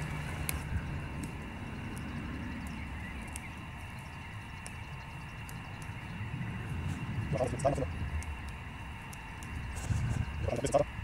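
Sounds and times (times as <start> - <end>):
faint sharp ticks: 0.0 - 6.2, 6.9 - 10.8
low outdoor rumble: 0.0 - 11.0.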